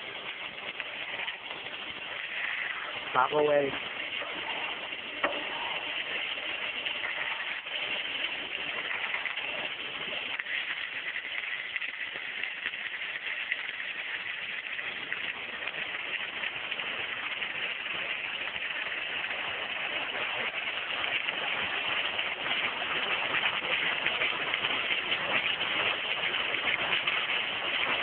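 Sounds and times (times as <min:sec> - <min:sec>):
welding machine hissing: 0:00.0 - 0:28.0.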